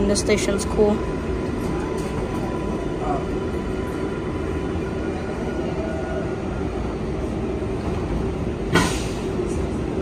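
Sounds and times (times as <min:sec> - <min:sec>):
subway train rumble: 0:00.0 - 0:10.0.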